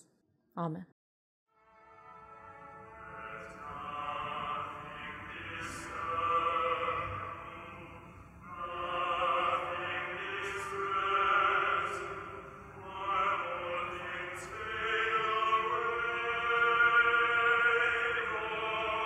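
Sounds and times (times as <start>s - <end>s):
choir singing a slow chant: 2.9s - 19.0s.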